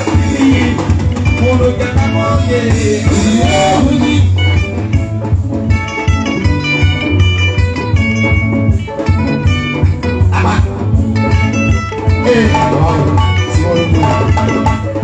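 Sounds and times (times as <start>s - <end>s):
loud band music with heavy bass: 0.0s - 15.0s.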